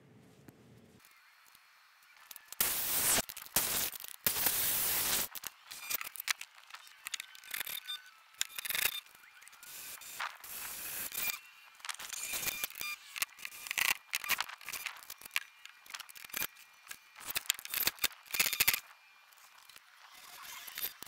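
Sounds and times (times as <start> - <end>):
clicks and rattles of drilling: 2.2 - 21.0.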